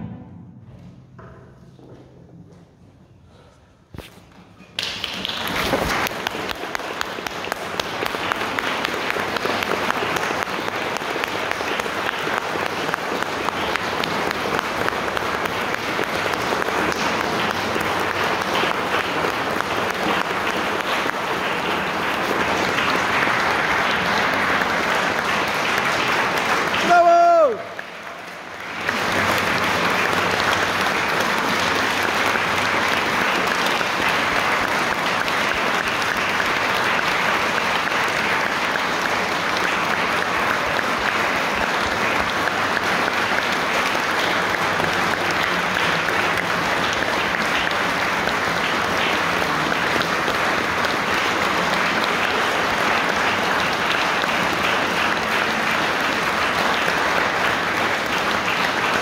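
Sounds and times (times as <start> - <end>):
audience applauding: 4.7 - 59.0.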